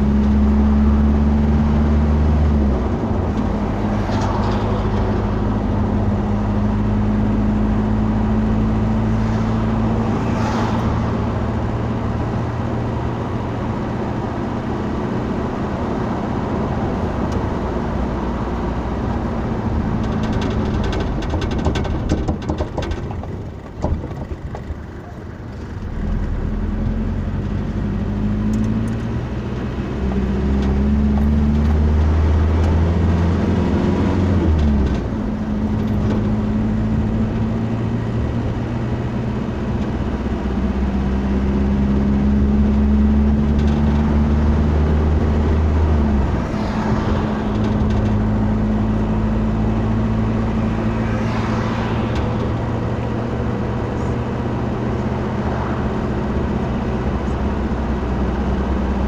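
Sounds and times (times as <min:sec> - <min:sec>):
tyre and road noise: 0:00.0 - 0:59.0
vehicle engine running: 0:00.0 - 0:59.0.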